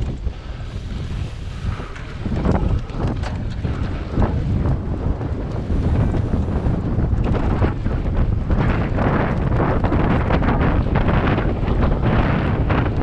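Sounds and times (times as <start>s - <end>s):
bike rattling over rough ground: 0.0s - 13.0s
wind buffeting microphone: 0.0s - 13.0s.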